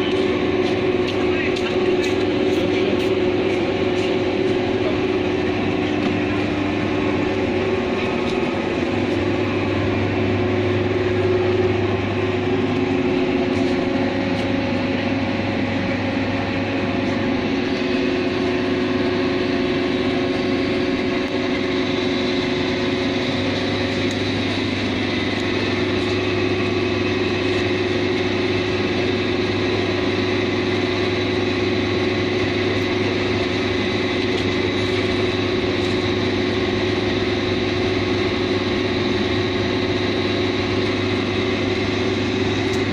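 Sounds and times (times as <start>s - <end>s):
train mechanical drone: 0.0s - 42.9s.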